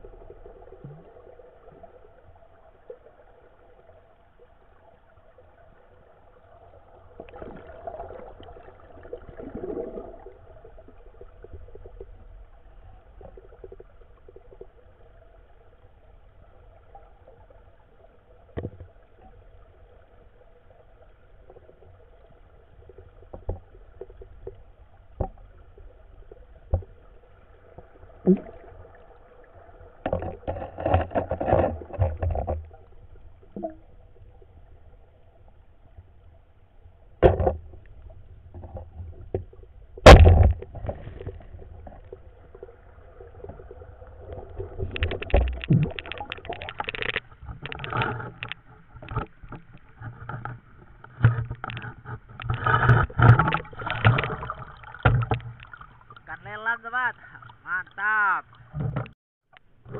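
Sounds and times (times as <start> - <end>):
underwater river rumble: 0.0 - 59.9
water gurgling: 0.0 - 59.9.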